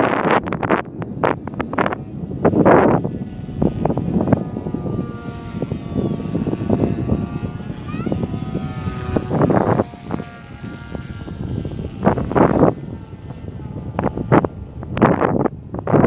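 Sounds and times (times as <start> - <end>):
electric motor whining: 0.0 - 16.0
wind buffeting microphone: 0.0 - 16.0.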